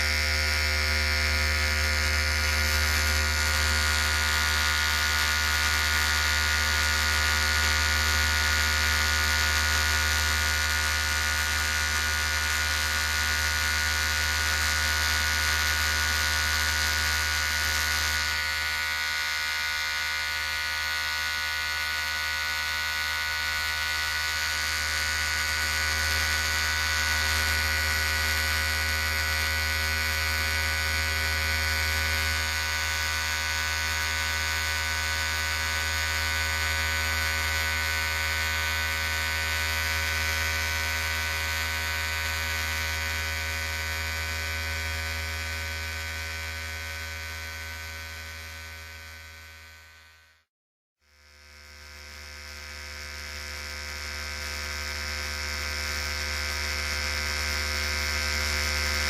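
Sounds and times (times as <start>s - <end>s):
electric hair clipper buzzing: 0.0s - 50.5s, 51.1s - 59.0s.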